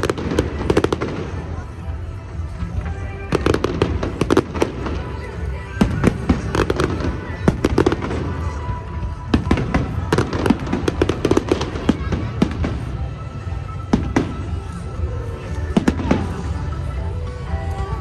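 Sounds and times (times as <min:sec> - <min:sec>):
fireworks bangs and crackles: 0:00.0 - 0:17.0
background music: 0:00.0 - 0:18.0.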